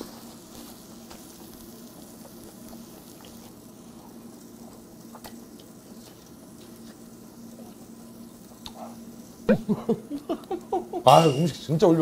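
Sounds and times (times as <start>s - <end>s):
low steady hum: 0.0s - 12.0s
meat sizzling on grill: 0.0s - 12.0s.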